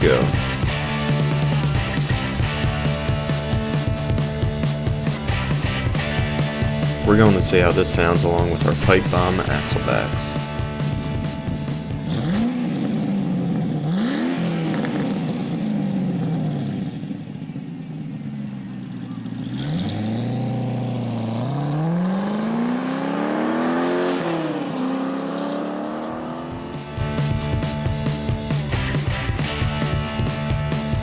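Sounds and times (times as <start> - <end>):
car engine idling: 0.0 - 23.2, 24.1 - 31.0
car engine revving: 0.0 - 31.0.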